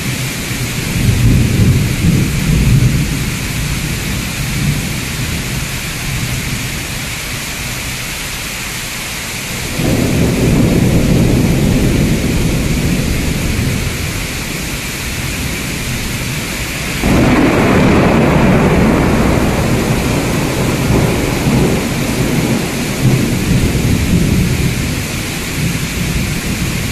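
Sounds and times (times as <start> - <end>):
thunder rumbling: 0.0 - 8.2, 9.4 - 26.9
heavy rain: 0.0 - 26.9.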